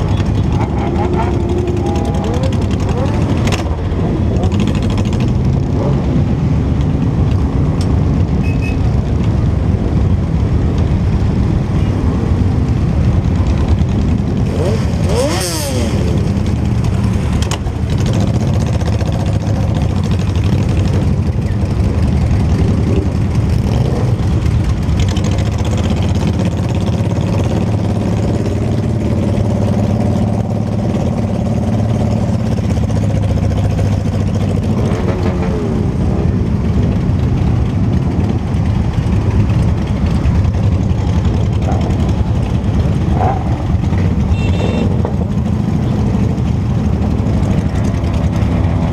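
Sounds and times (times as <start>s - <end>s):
motorcycle engine rumbling: 0.0s - 48.9s.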